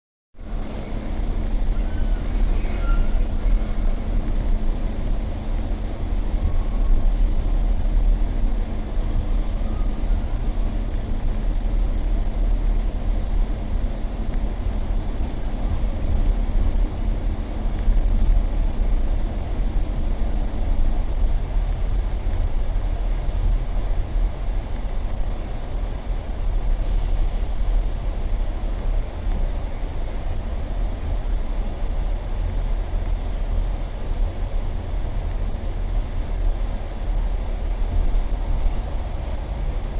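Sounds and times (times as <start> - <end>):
train rumbling: 0.4 - 39.9.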